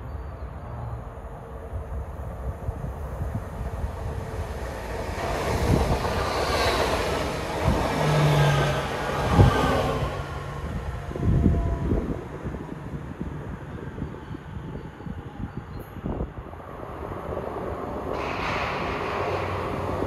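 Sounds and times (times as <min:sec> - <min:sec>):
train wheel and rail noise: 0:00.0 - 0:20.0.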